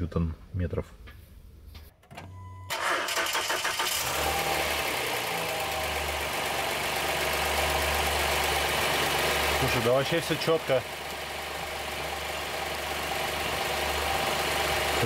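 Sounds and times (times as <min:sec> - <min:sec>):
car engine starting and idling: 0:02.0 - 0:15.0.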